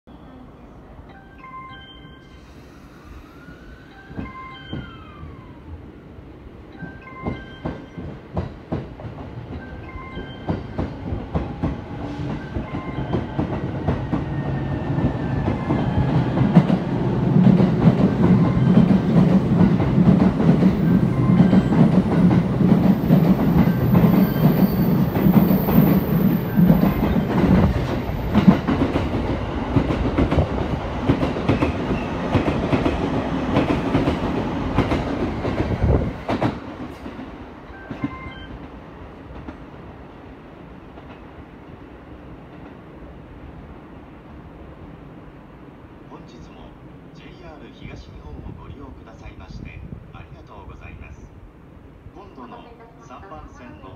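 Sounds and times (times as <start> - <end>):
train running past: 0.1 - 53.9.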